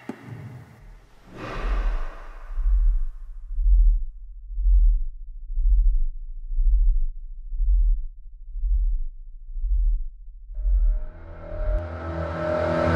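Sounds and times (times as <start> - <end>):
deep bass pulse: 0.8 - 12.9.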